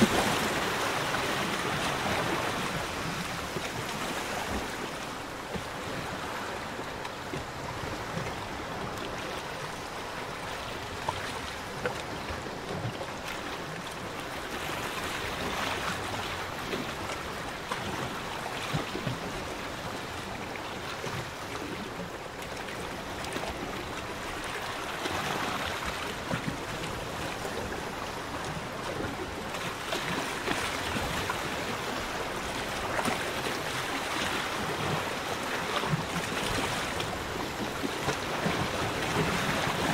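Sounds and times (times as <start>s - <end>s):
waves lapping against a pontoon: 0.0s - 39.9s.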